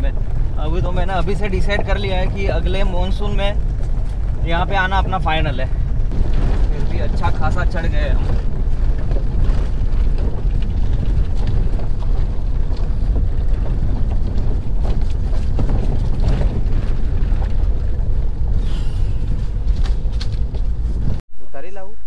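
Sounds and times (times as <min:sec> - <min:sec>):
car cabin rumble on rough track: 0:00.0 - 0:21.2
suspension knocks and rattles: 0:00.0 - 0:21.2.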